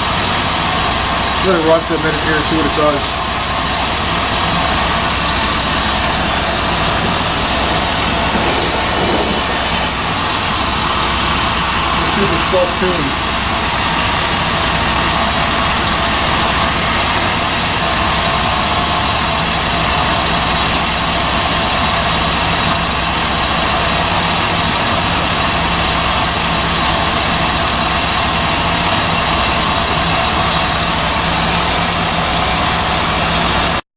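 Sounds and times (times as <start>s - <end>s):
truck engine idling: 0.0s - 33.8s.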